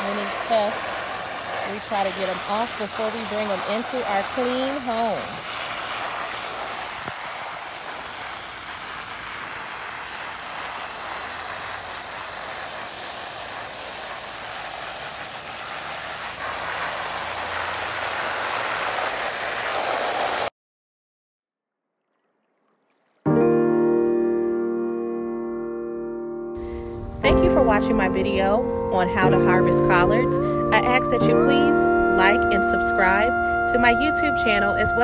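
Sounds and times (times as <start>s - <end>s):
garden hose spraying water: 0.0s - 20.5s, 26.6s - 35.0s.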